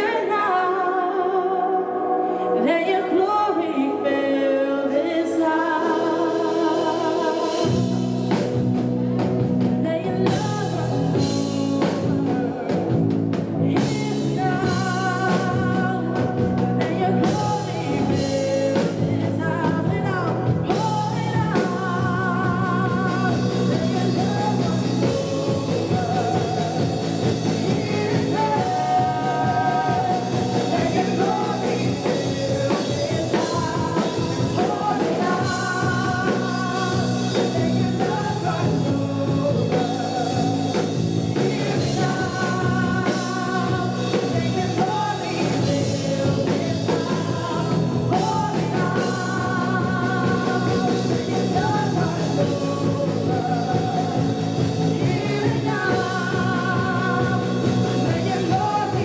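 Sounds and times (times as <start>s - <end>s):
drums: 0.0s - 59.0s
electric guitar: 0.0s - 59.0s
keyboard: 0.0s - 59.0s
woman singing with vibrato: 0.0s - 59.0s.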